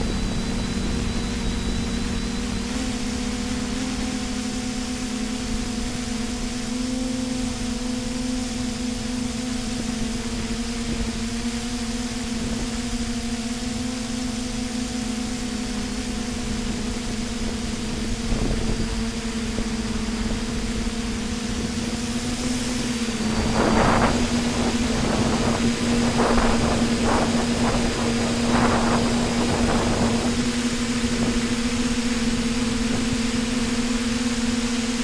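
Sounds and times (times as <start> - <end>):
drone motors and propellers humming: 0.0 - 35.0.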